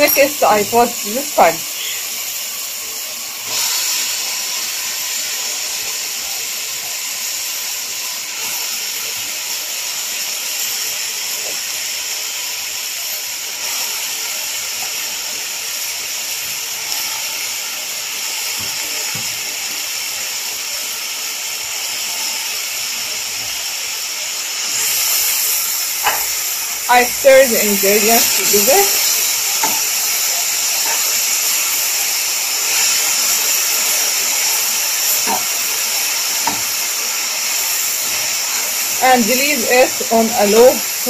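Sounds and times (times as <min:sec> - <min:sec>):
food sizzling in a pot: 0:00.0 - 0:41.0.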